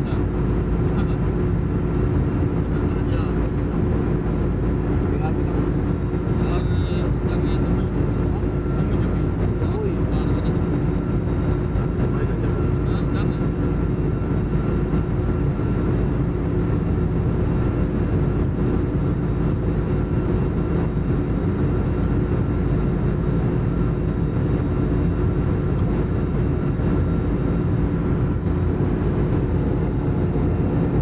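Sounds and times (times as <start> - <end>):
jet airliner cabin drone: 0.0 - 31.0.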